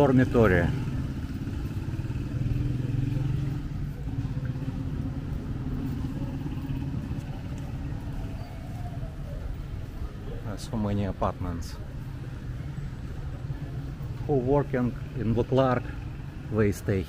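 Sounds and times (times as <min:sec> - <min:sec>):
street background noise: 0:00.0 - 0:17.0
vehicle engine humming: 0:00.0 - 0:17.0.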